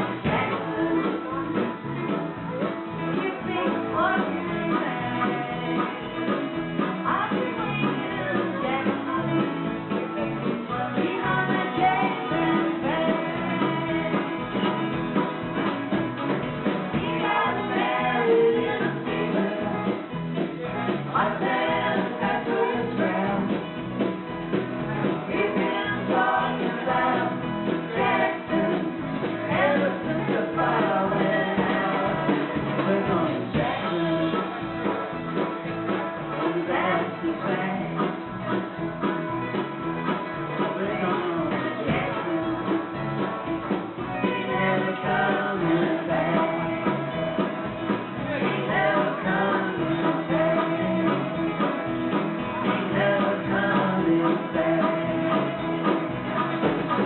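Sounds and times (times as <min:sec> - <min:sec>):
acoustic guitar: 0:00.0 - 0:57.0
voices singing: 0:00.0 - 0:57.0.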